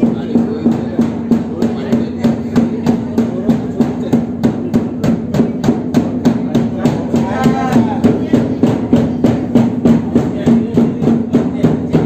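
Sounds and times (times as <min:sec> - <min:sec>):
barrel drum beaten with a stick: 0:00.0 - 0:12.0.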